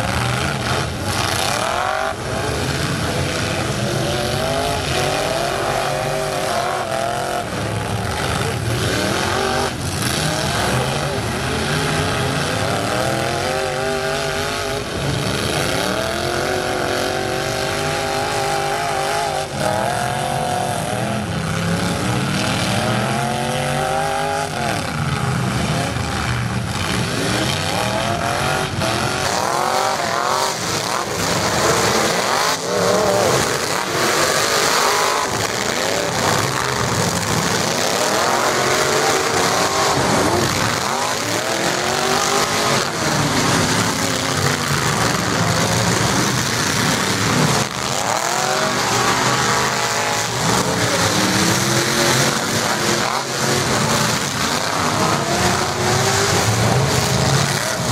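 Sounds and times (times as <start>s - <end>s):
truck engines revving: 0.0s - 57.9s.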